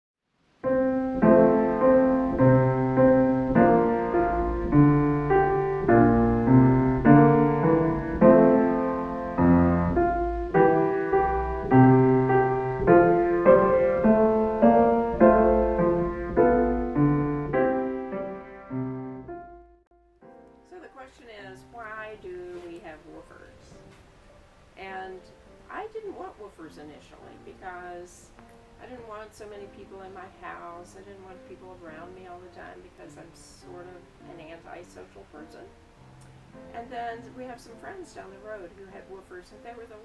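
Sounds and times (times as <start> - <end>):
gentle piano music: 0.5 - 40.0.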